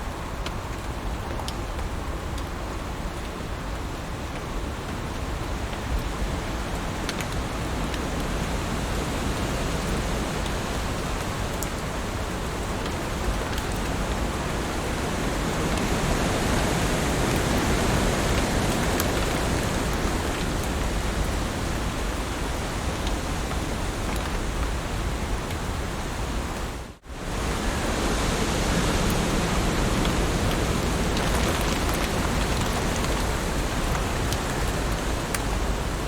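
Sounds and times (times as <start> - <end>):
heavy rain: 0.0 - 36.0.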